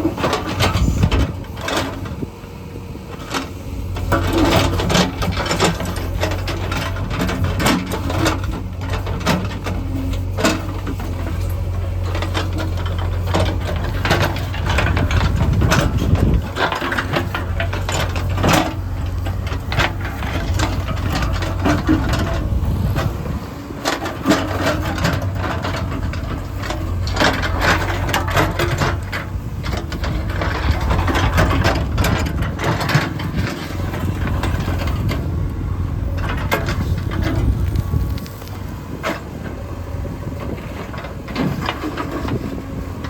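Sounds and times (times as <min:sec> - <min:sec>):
diesel engine running: 0:00.0 - 0:43.0
metallic clanks and rattles: 0:03.2 - 0:35.4, 0:36.1 - 0:39.6.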